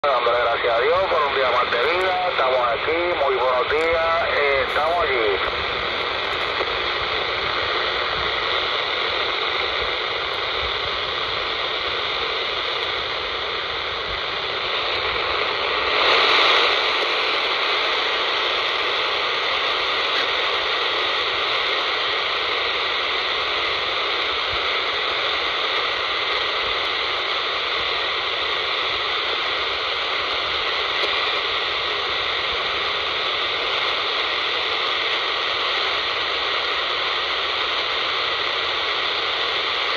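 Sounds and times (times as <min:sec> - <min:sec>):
radio static hissing: 0:00.0 - 0:39.9.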